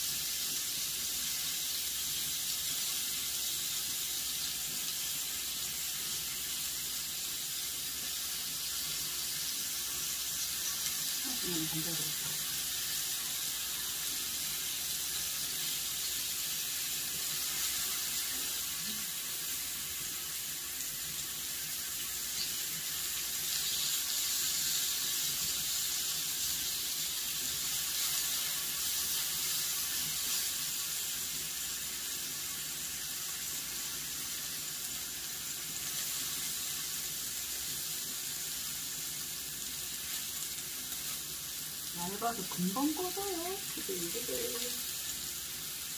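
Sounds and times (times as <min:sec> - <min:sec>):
meat and mushrooms sizzling: 0:00.0 - 0:45.9.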